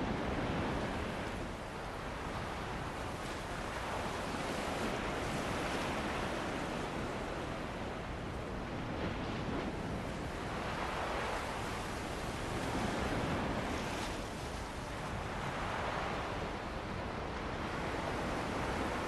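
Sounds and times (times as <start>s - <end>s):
ocean waves breaking on beach: 0.0s - 19.0s.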